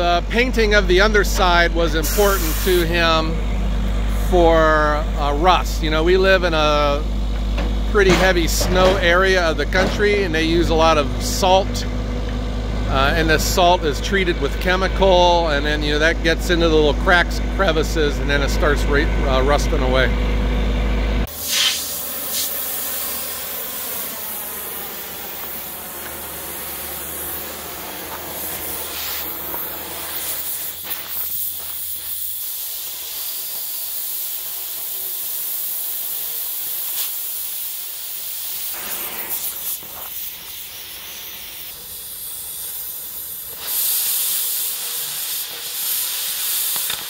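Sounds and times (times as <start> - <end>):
cutting torch hissing: 0.0 - 12.0, 21.2 - 47.0.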